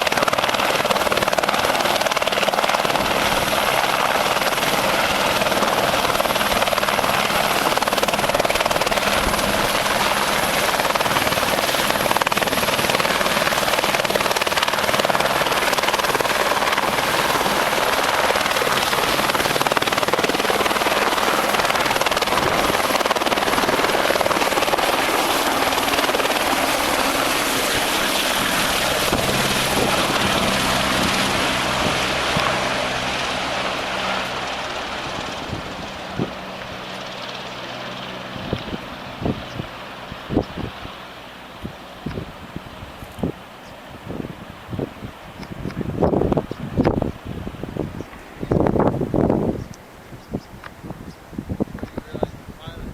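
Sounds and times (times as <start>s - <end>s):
helicopter rotor and engine: 0.0s - 52.9s.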